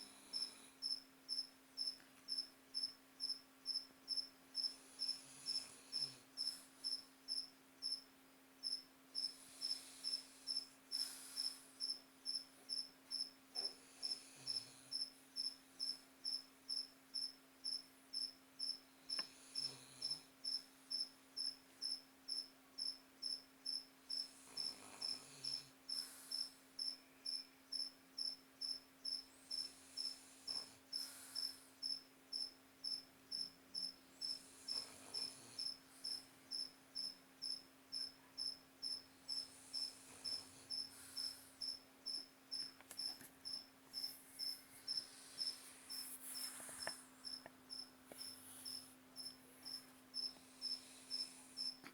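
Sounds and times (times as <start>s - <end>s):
dog snoring softly: 0.0s - 3.4s, 4.1s - 8.0s, 8.7s - 42.3s, 43.5s - 51.8s.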